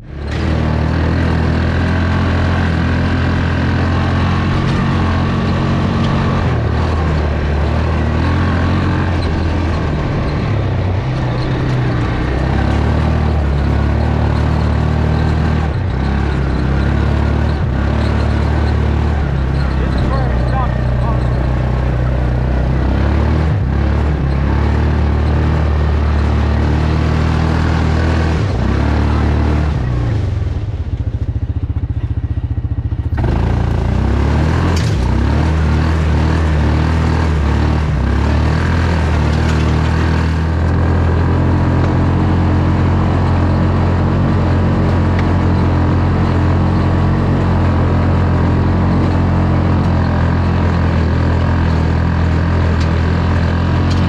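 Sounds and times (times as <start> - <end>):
single-cylinder engine under load: 0.0 - 54.0.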